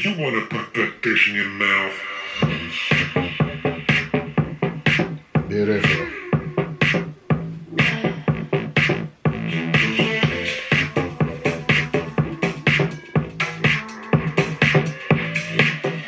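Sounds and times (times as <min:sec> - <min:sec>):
hip hop electronic music with vocals: 0:01.0 - 0:16.0.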